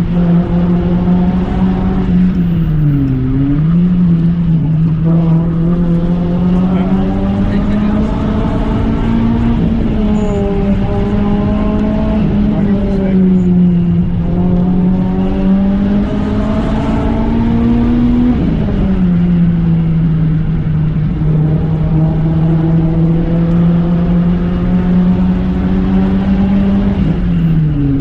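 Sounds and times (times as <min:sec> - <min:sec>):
car engine revving: 0:00.0 - 0:28.0
road and tyre noise: 0:00.0 - 0:28.0.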